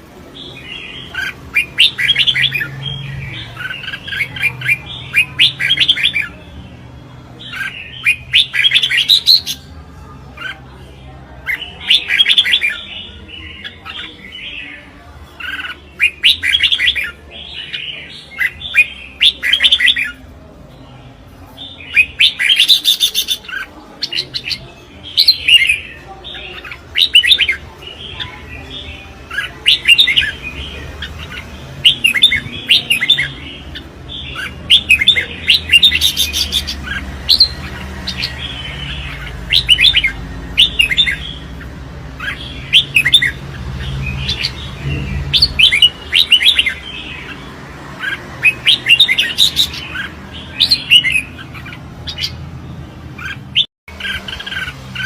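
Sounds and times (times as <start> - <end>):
bird singing warbled phrases: 0.0 - 55.0.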